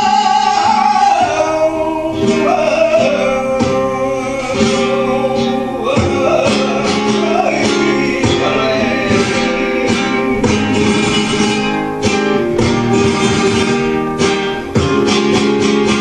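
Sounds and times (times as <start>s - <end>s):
acoustic flamenco guitar: 0.0s - 16.0s.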